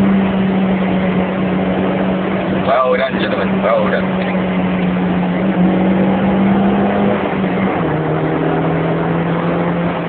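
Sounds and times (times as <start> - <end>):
car engine running hard: 0.0 - 10.0
road and wind noise: 0.0 - 10.0.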